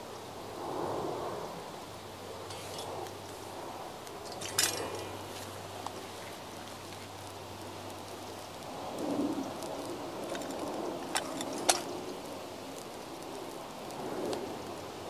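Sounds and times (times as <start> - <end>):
wooden clock burning and crackling: 0.0 - 15.0.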